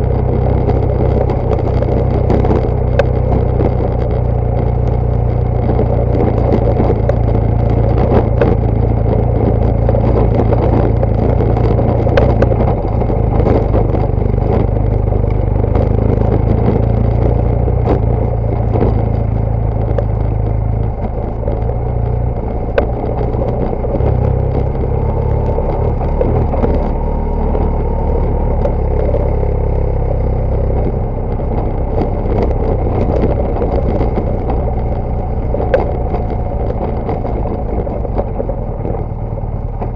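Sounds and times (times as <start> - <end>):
clicks and clatter: 0.0 - 39.9
motorcycle engine drone: 0.0 - 39.9.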